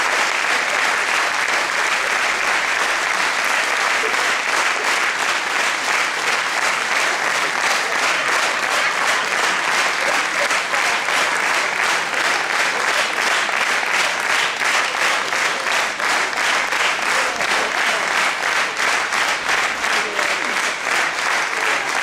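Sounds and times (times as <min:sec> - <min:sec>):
audience clapping in rhythm: 0:00.0 - 0:22.0.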